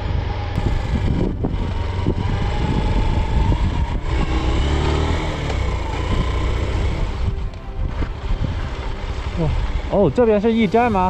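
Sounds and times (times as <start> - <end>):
motorcycle engine running: 0.0 - 11.0
road noise rushing: 0.0 - 11.0.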